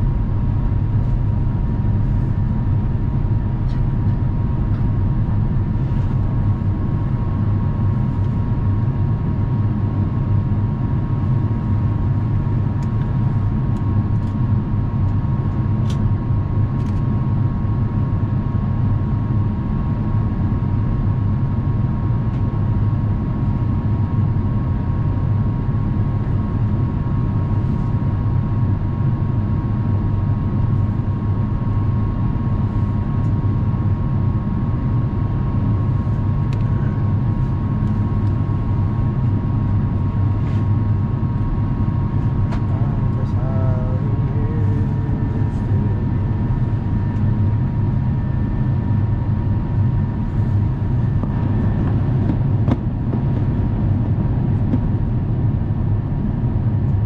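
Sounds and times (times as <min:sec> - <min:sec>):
low rumble of airflow and engines: 0:00.0 - 0:57.0
steady mid-pitched hum: 0:00.0 - 0:57.0.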